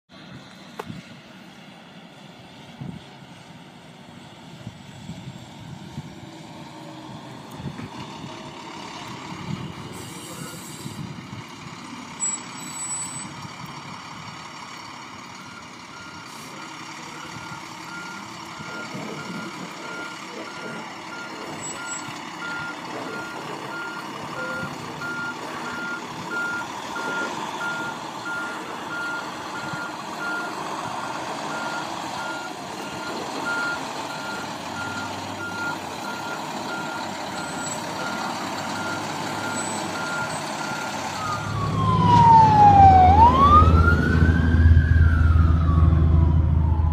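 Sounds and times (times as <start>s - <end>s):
fire engine running: 0.1s - 46.9s.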